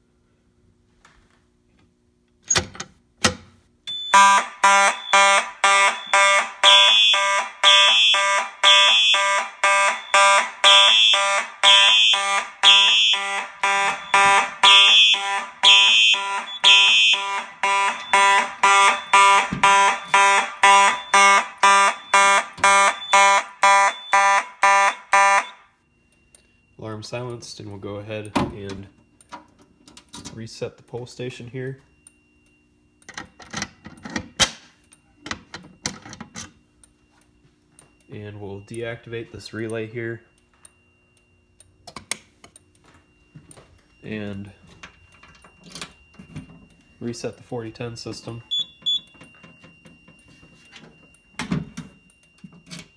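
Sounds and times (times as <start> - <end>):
fire alarm horns pulsing: 3.9 - 29.3, 30.4 - 52.9.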